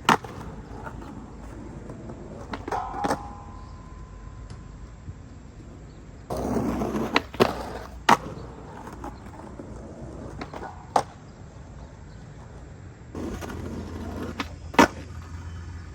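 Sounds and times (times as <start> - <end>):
skateboard clacking on ground: 0.0 - 5.0, 5.6 - 15.9
skateboard wheels rolling: 0.0 - 15.9.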